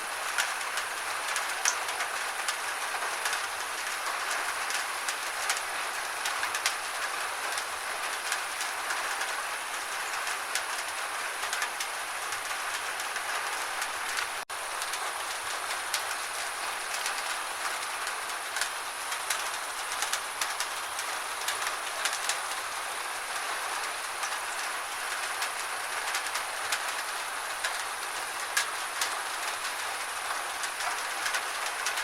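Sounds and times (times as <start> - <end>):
gentle rain: 0.0 - 32.0.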